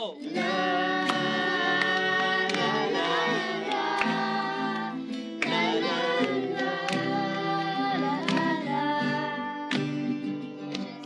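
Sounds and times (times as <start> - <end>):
acoustic guitar strumming: 0.0 - 11.0
children singing: 0.1 - 9.9.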